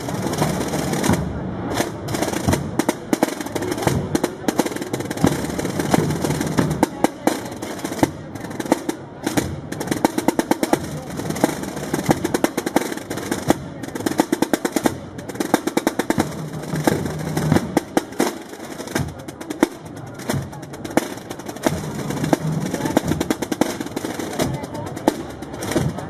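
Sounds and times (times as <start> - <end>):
snare drums in marching rhythm: 0.0 - 26.0.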